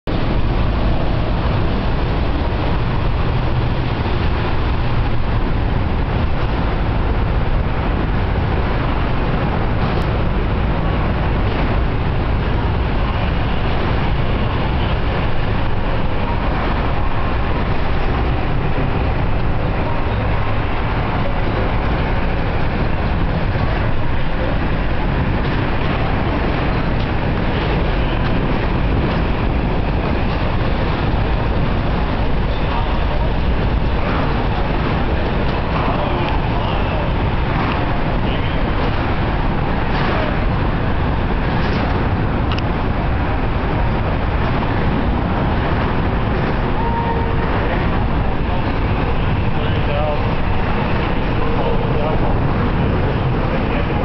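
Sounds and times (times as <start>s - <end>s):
highway traffic overhead: 0.0s - 54.0s.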